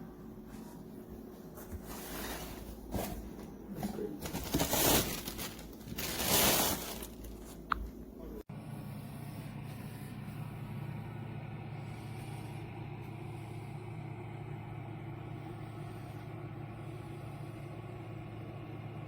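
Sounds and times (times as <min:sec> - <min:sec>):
food dehydrator fan humming: 0:00.0 - 0:19.0.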